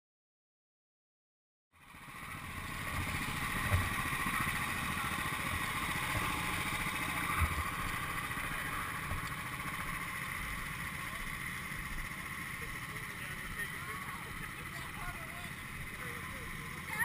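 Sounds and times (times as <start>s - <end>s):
go-kart engines running: 1.8s - 17.0s.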